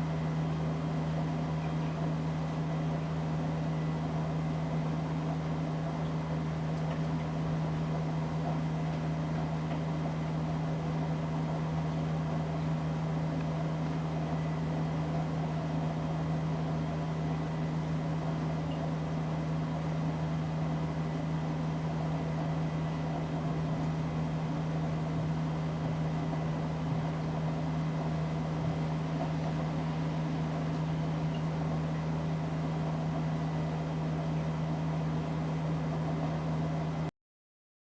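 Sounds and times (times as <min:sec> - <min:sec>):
ceiling fan motor hum: 0:00.0 - 0:37.1.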